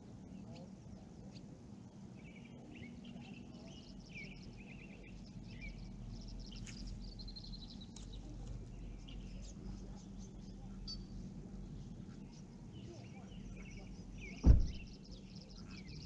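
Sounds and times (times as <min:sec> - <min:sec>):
small birds chirping and trilling: 0:00.0 - 0:16.0
steady low rumble: 0:00.0 - 0:16.0.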